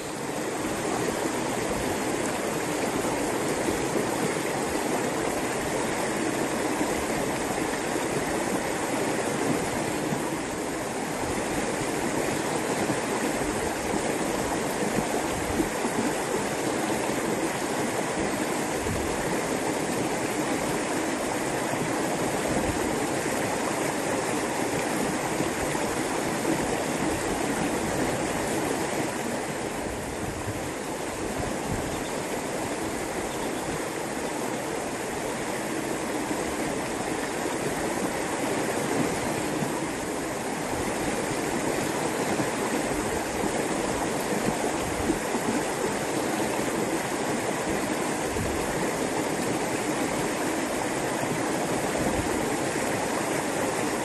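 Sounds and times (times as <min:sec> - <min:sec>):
small river flowing: 0:00.0 - 0:54.0.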